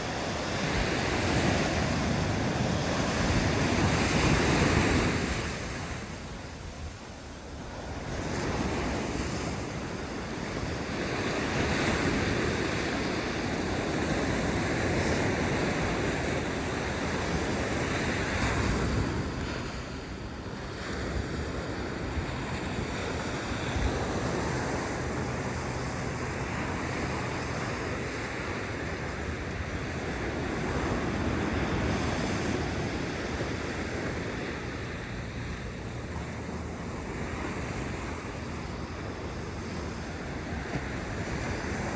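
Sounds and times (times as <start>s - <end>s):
surf breaking on sandy beach: 0.0s - 41.9s
wind buffeting microphone: 0.0s - 41.9s.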